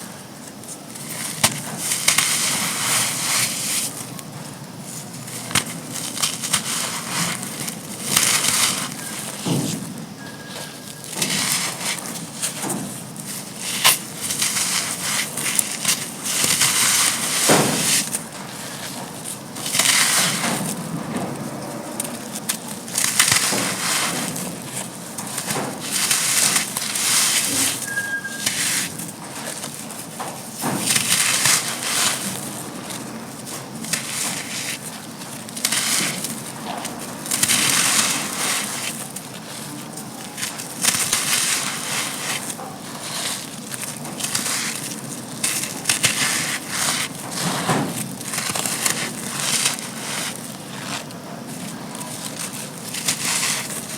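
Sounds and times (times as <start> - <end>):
cement chunks crumbling: 0.2 - 53.9.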